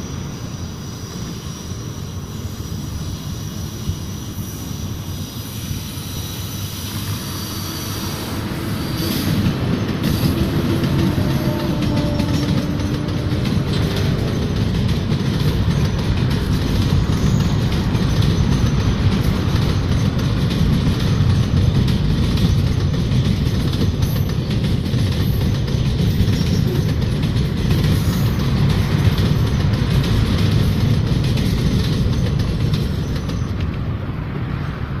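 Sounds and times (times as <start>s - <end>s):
freight train rolling past: 0.0s - 35.0s.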